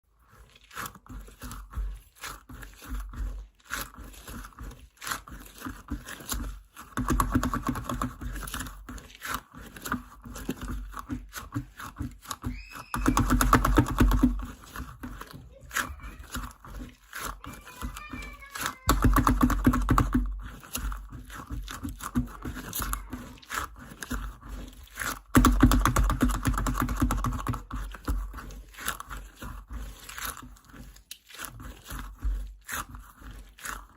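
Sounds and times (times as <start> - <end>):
squishy toy squelching: 0.0 - 33.9.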